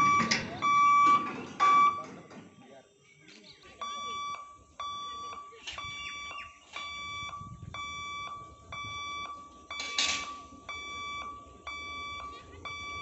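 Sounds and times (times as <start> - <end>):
level crossing alarm beeping: 0.0 - 2.6, 3.7 - 13.0.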